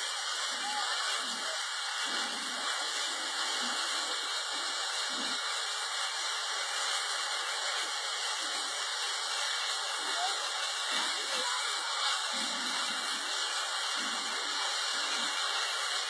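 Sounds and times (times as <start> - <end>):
fire hose spray: 0.0 - 16.0
jet fire hissing: 0.0 - 16.0.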